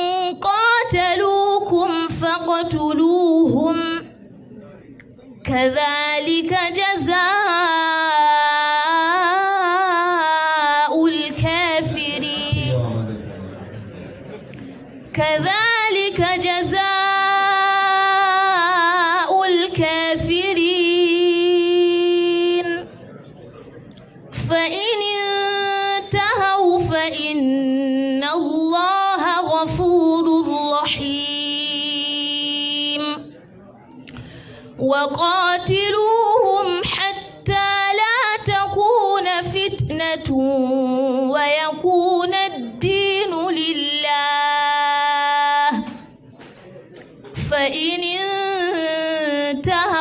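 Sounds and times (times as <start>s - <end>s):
woman chanting melodically: 0.0s - 4.1s, 5.4s - 12.8s, 15.1s - 22.8s, 24.4s - 33.3s, 34.8s - 46.2s, 47.4s - 50.0s.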